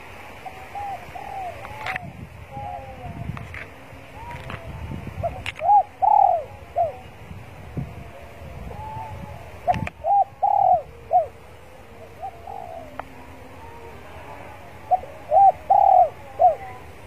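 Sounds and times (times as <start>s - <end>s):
dove cooing: 0.3s - 17.0s.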